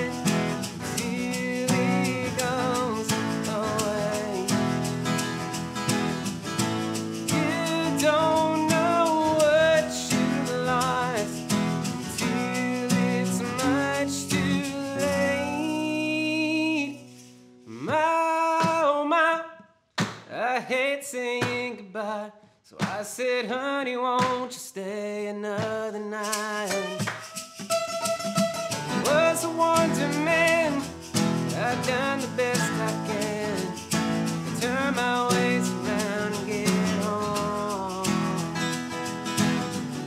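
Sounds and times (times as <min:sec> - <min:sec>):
acoustic guitars strumming: 0:00.0 - 0:19.1, 0:25.6 - 0:40.0.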